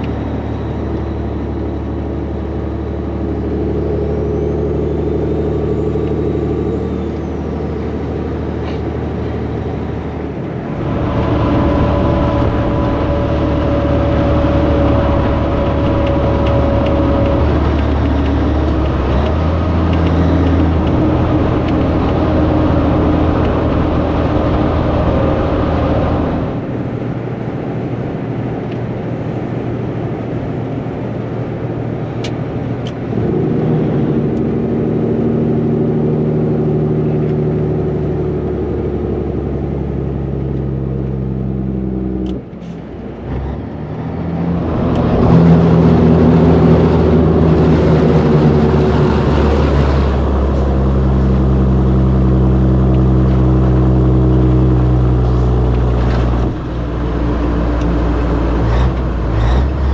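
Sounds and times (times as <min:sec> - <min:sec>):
truck diesel engine drone: 0:00.0 - 0:59.9
rushing noise: 0:04.7 - 0:36.2, 0:42.4 - 0:59.9.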